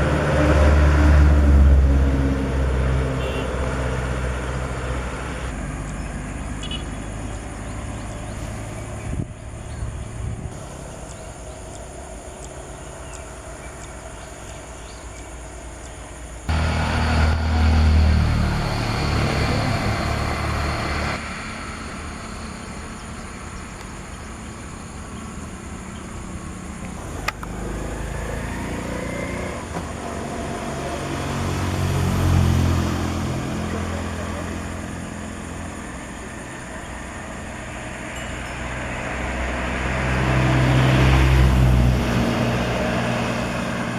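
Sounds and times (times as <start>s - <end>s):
vehicle engine rumbling: 0.0s - 43.9s.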